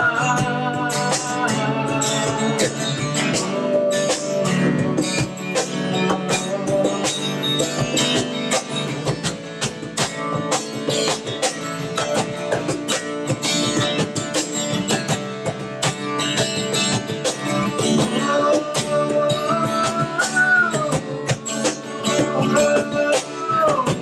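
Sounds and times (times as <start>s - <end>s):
acoustic guitar strumming: 0.0s - 24.0s
cajon beating: 0.0s - 24.0s.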